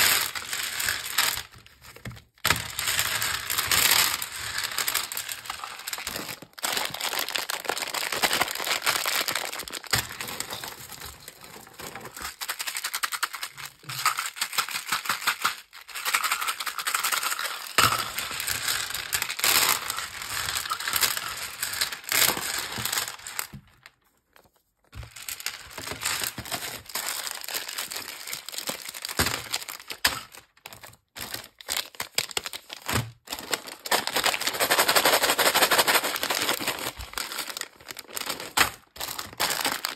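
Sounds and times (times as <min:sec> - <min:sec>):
plastic wrappers crinkling: 0:00.0 - 0:39.9.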